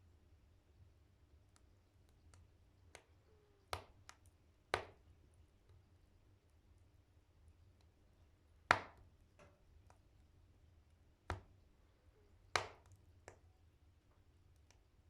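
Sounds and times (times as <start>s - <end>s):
firewood crackling in a stove: 0.0s - 15.0s.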